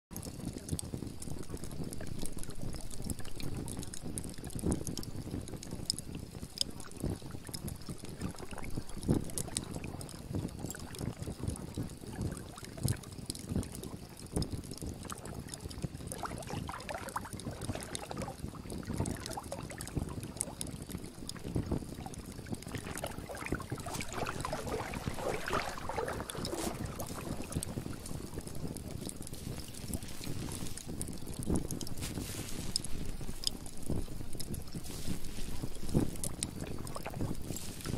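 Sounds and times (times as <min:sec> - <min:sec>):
moving water: 0:00.1 - 0:37.9
small irregular clicks: 0:00.1 - 0:37.9.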